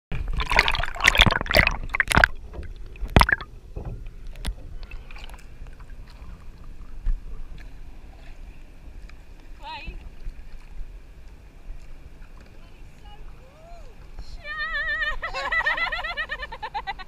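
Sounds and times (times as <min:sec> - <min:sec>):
water splashing: 0:00.1 - 0:16.0.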